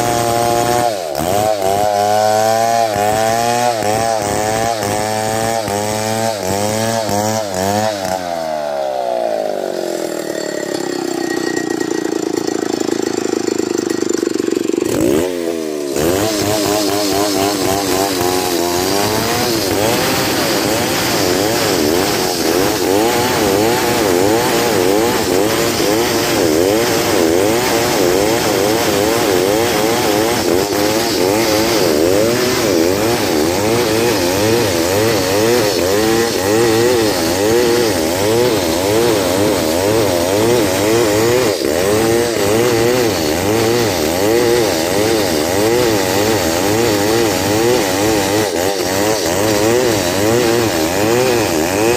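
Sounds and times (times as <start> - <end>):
chainsaw cutting log: 0.0 - 51.9.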